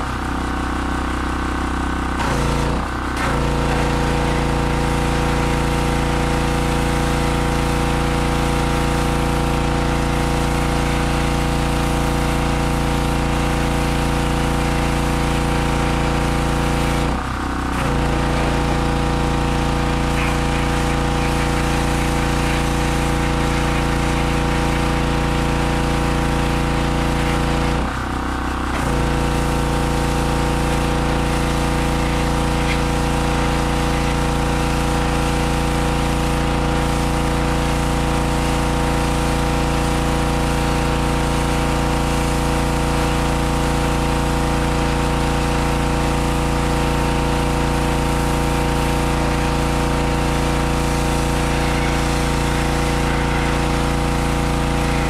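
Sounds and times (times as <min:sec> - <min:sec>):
pressure washer engine running: 0:00.0 - 0:55.0.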